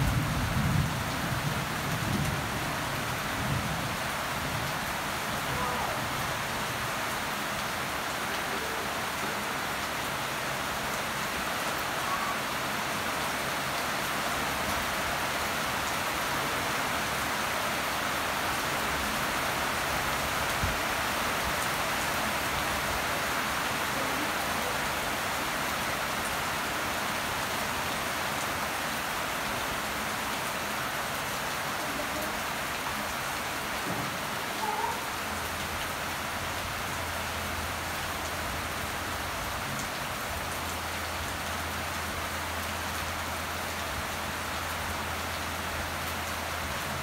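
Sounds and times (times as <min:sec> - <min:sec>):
rain falling on plants: 0:00.0 - 0:47.0.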